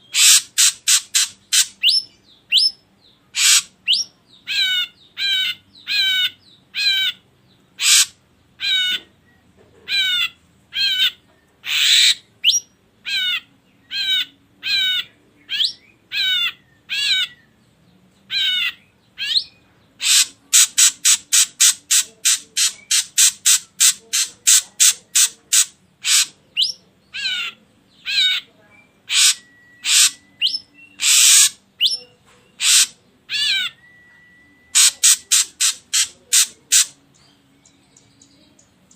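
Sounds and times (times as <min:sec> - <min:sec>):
bird harsh calls: 0:00.0 - 0:17.6, 0:18.3 - 0:37.0.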